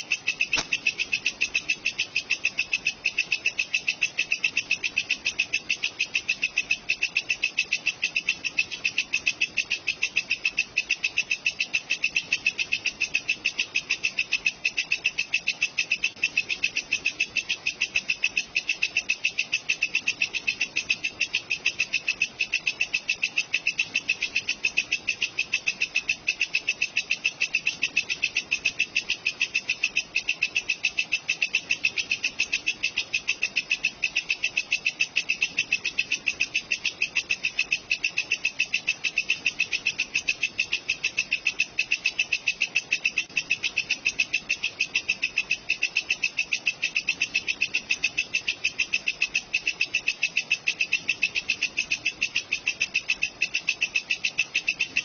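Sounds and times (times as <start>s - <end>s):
katydid stridulating: 0.0s - 55.0s.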